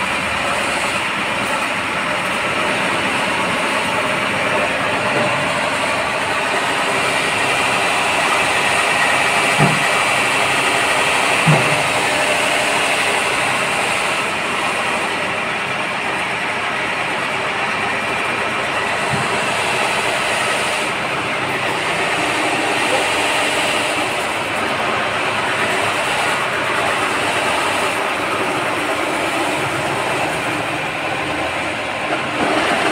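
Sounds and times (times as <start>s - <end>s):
wet grinder running: 0.0s - 32.9s.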